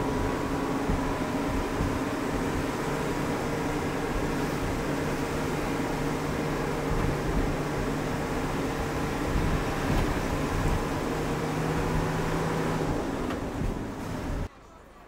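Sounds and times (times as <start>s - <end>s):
truck engine running: 0.0s - 14.5s
wind noise: 0.0s - 14.5s
road noise: 0.0s - 14.9s.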